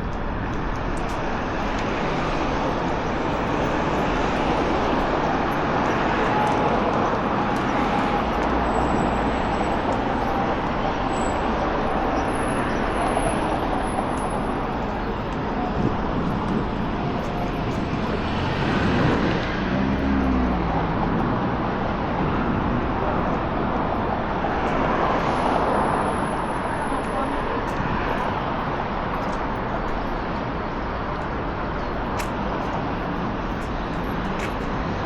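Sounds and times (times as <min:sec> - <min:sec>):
busy road traffic: 0:00.0 - 0:35.0.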